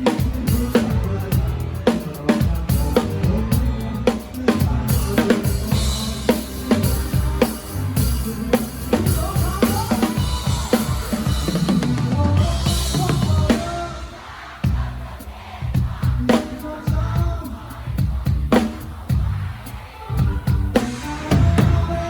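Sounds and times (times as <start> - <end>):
band playing: 0.0 - 22.0
bass: 0.0 - 22.0
drum kit beat: 0.0 - 22.0.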